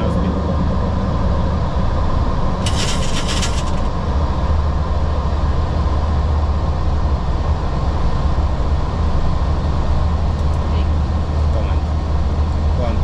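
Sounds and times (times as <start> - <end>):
aircraft cockpit drone: 0.0 - 13.0.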